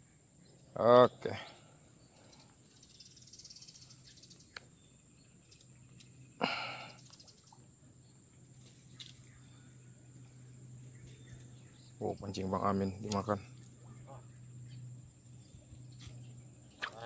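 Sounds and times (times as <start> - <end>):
low hum: 1.7 - 17.0.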